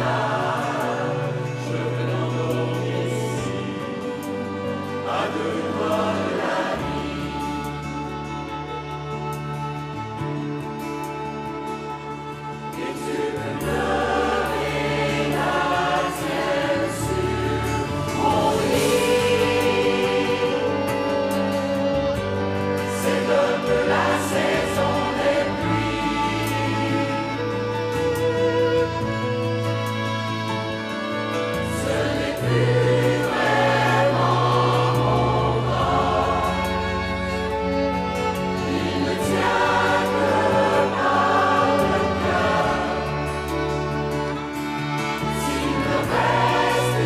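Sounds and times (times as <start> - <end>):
mixed choir singing in harmony: 0.0 - 9.4, 12.4 - 47.0
low instrumental accompaniment: 0.0 - 47.0
violins and cello: 0.0 - 47.0.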